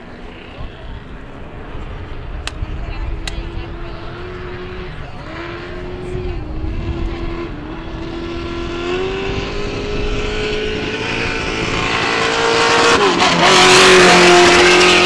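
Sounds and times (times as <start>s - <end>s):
truck engine running hard: 0.0s - 15.0s
tyre and dirt rush: 0.0s - 15.0s.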